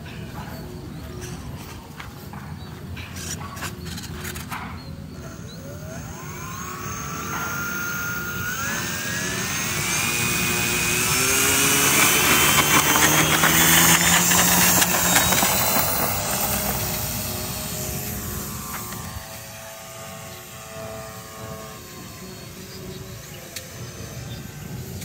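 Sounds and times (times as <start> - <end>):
electric motor and propeller whine: 1.0 - 25.0.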